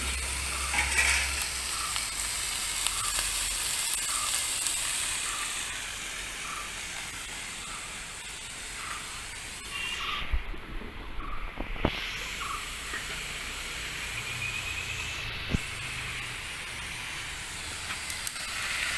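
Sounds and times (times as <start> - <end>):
vegetables sizzling in oil: 0.0 - 10.2, 11.8 - 18.9.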